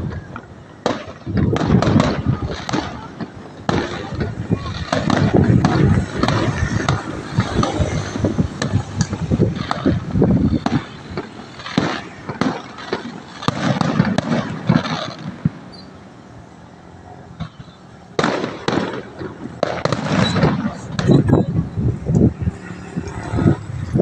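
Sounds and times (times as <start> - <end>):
fireworks popping and cracking: 0.0 - 24.0.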